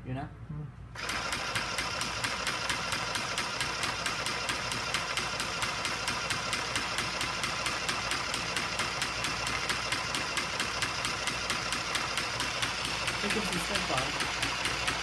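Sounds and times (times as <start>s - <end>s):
sewing machine motor humming: 1.0s - 15.0s.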